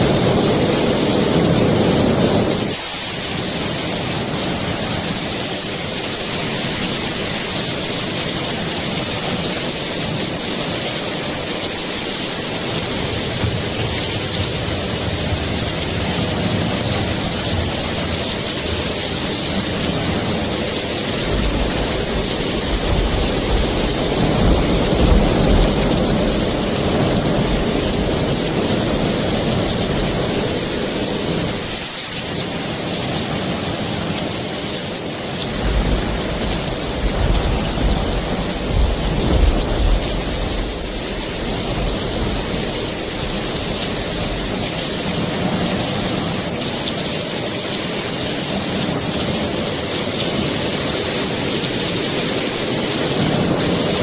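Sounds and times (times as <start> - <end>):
thunder rumbling: 0.0 - 31.9, 35.4 - 54.0
heavy rain hissing: 0.0 - 54.0.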